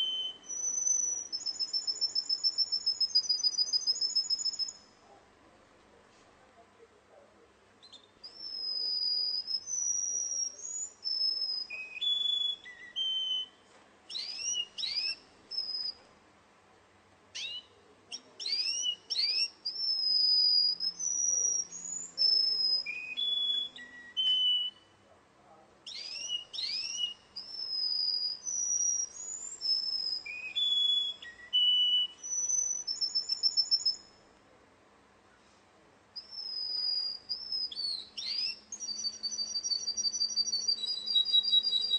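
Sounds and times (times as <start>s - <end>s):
canary singing: 0.0s - 5.0s, 7.8s - 16.0s, 17.3s - 25.0s, 25.8s - 34.2s, 36.2s - 41.9s.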